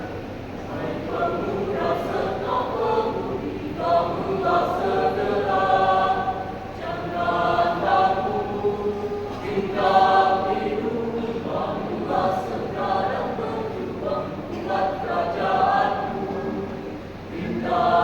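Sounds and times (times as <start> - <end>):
youth choir singing: 0.0 - 18.0.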